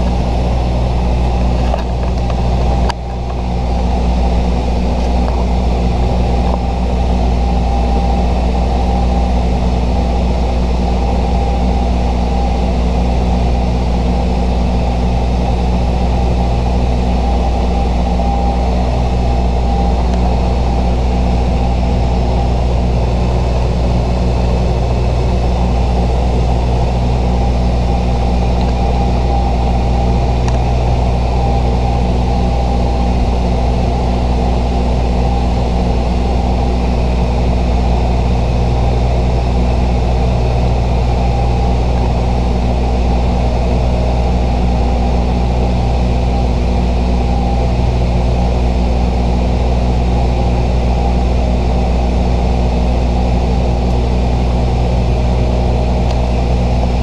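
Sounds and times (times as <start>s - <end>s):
faint high whine: 0.0s - 57.0s
turboprop engines droning: 0.0s - 57.0s.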